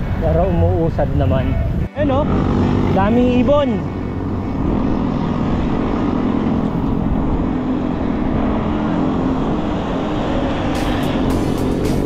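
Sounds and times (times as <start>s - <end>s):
traffic drone: 0.0s - 12.0s.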